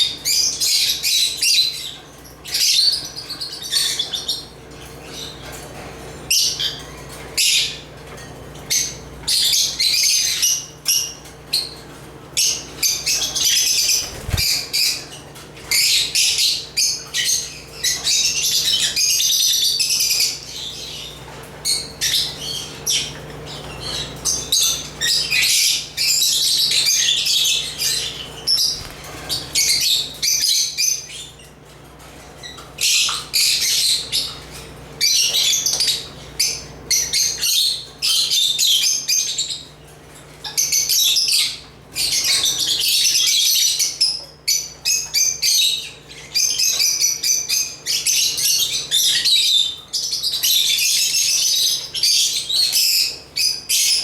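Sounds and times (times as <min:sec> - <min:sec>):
lovebirds chirping and twittering: 0:00.0 - 0:54.0.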